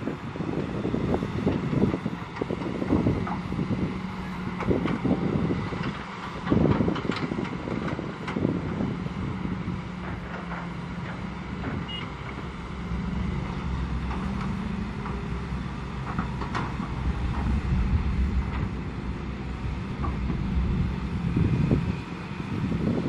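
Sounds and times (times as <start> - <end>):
excavator diesel engines rumbling: 0.0 - 23.0.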